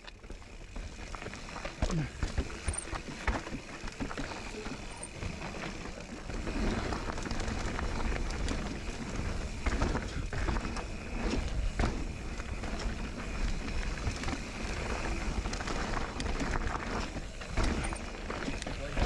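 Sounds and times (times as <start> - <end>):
bike clicks and clatters: 0.0 - 19.0
bike tyres crunching on gravel: 0.0 - 19.0.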